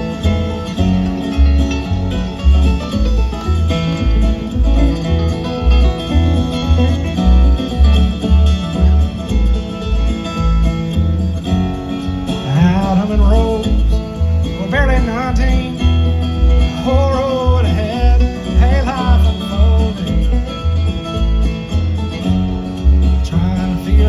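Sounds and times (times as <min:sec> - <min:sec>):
banjo: 0:00.0 - 0:24.0
bass beat: 0:00.0 - 0:24.0
bluegrass band playing: 0:00.0 - 0:24.0
guitar: 0:00.0 - 0:24.0
sliding lead melody: 0:00.0 - 0:24.0.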